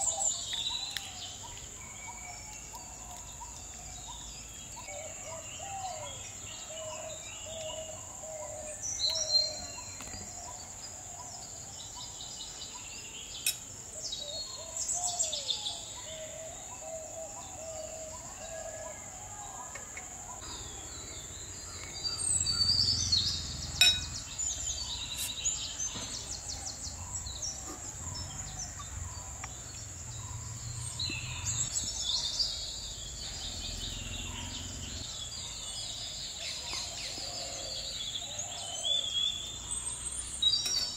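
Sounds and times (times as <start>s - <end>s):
birds chirping and singing: 0.0s - 40.9s.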